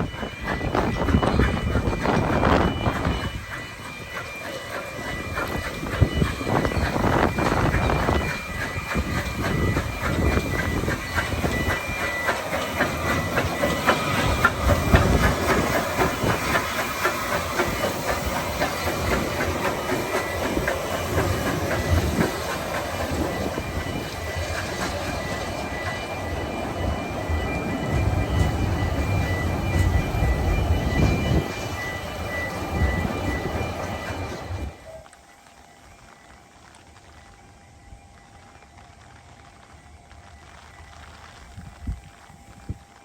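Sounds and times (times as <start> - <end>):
train wheels clicking over rail joints: 0.0 - 43.0.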